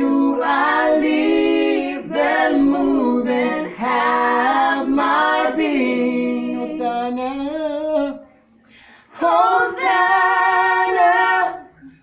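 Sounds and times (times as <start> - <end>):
group singing unaccompanied: 0.0 - 8.2, 9.1 - 12.0.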